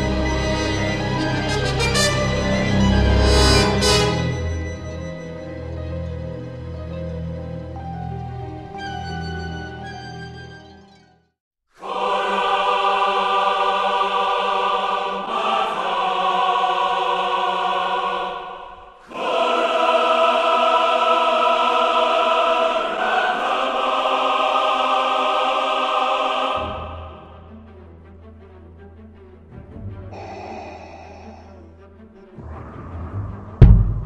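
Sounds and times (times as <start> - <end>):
choir singing sustained chords: 0.0 - 8.6, 11.8 - 34.0.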